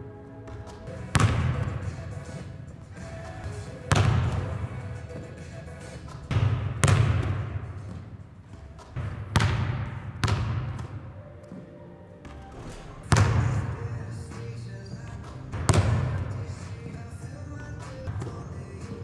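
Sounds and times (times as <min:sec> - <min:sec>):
faint music: 0:00.0 - 0:19.0
basketball bouncing on gym floor: 0:00.5 - 0:05.3, 0:06.0 - 0:11.6, 0:12.2 - 0:19.0.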